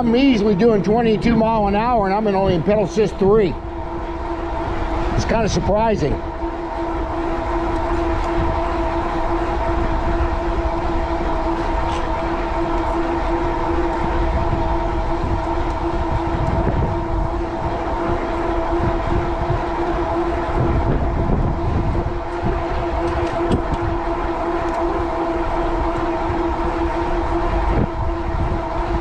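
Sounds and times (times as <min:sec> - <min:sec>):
e-bike droning hum: 0:00.0 - 0:29.0
low wind rumble: 0:00.0 - 0:29.0.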